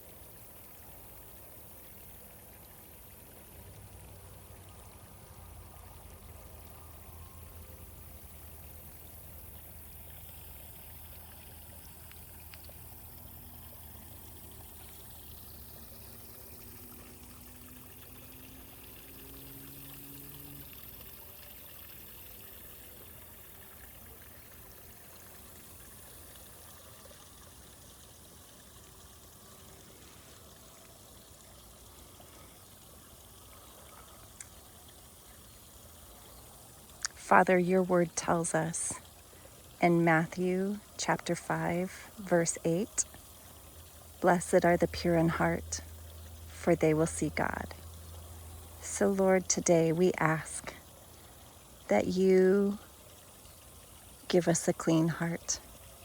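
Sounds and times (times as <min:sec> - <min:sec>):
faint running water: 0:00.0 - 0:56.0.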